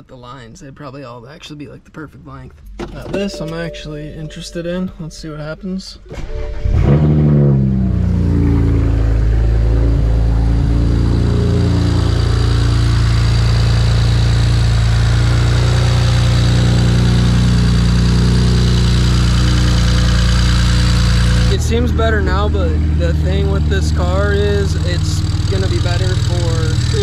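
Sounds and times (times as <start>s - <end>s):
car engine starting and idling: 2.6s - 27.0s.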